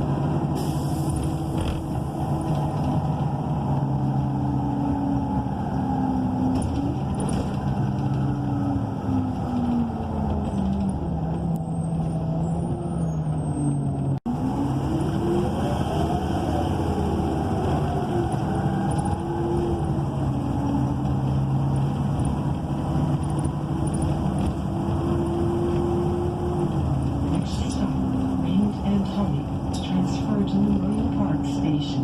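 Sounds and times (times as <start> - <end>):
bus engine slowing and accelerating: 0.0 - 32.0.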